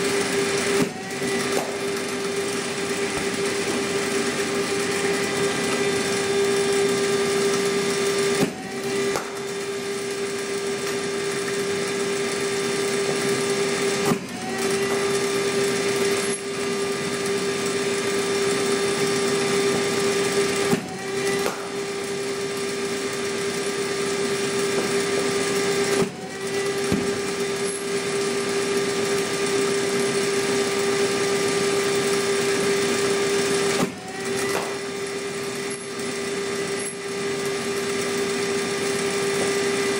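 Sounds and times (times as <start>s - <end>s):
bowling machine motor hum: 0.0s - 39.9s.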